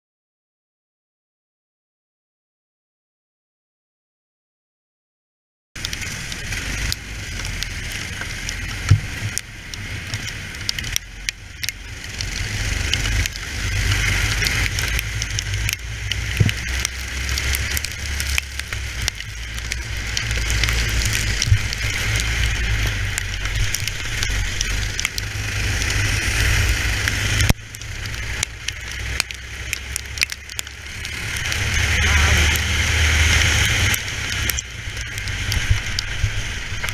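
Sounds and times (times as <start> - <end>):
racing kart engine: 5.8 - 36.9
wind rush on microphone: 5.8 - 36.9.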